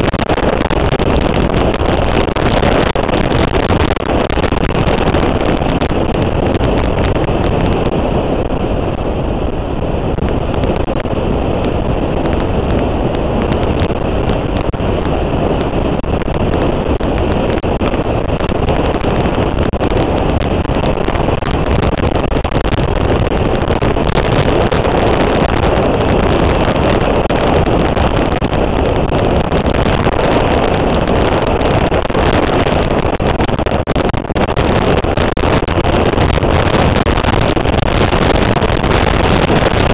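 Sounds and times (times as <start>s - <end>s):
motorcycle riding: 0.0s - 39.9s
wind rushing over microphone: 0.0s - 39.9s.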